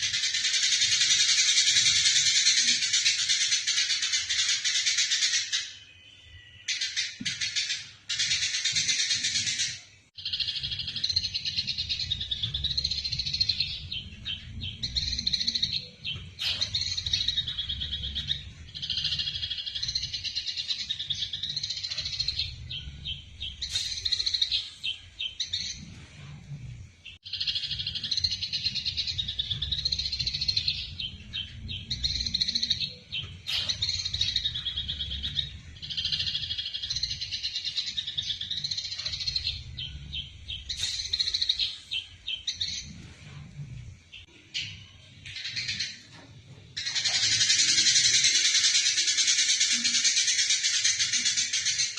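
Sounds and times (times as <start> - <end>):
sparrows chattering: 0.0 - 51.9.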